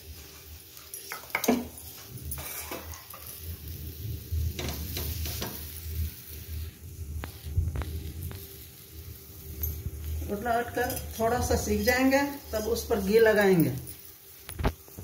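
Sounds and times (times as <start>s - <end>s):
faint sizzle: 0.0s - 15.0s.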